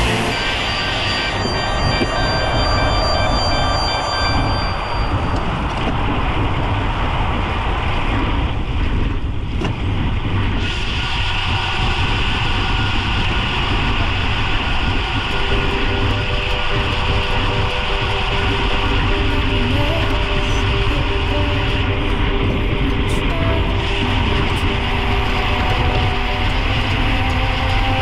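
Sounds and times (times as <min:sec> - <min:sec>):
rushing wind: 0:00.0 - 0:28.0.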